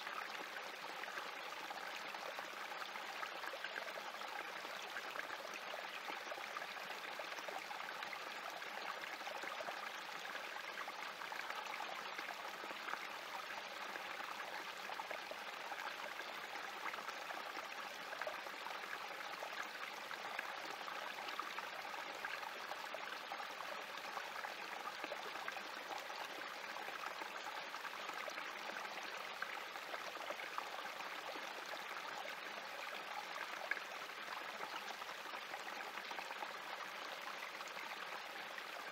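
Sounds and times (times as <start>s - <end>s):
creek flowing over rocks: 0.0s - 38.9s.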